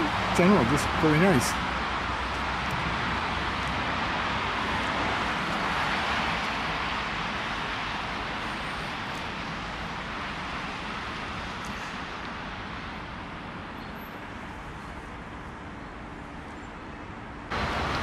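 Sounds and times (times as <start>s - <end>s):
passing cars and buses: 0.0s - 18.0s.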